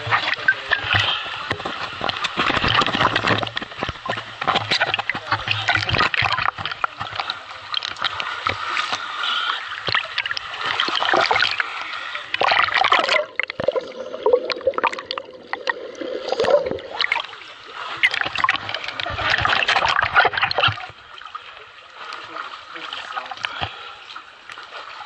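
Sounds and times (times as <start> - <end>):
muffled underwater sound: 0.0 - 21.0
water splashing around swimmer: 0.0 - 25.0.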